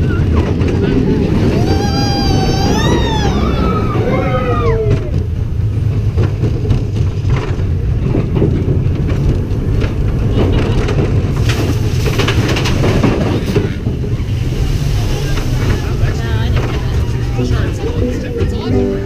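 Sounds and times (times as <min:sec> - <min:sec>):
train rumbling on track: 0:00.0 - 0:19.0
wheels clicking on rails: 0:00.0 - 0:19.0.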